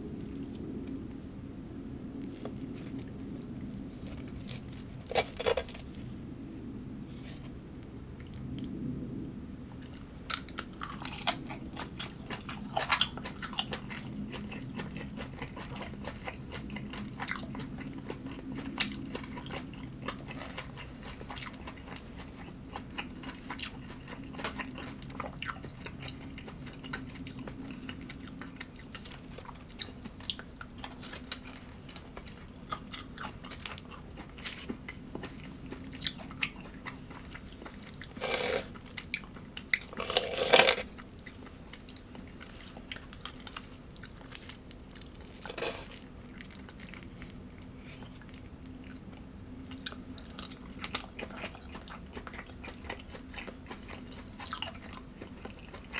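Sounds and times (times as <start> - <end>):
person chewing crunchy food: 2.2 - 6.3, 9.8 - 55.9.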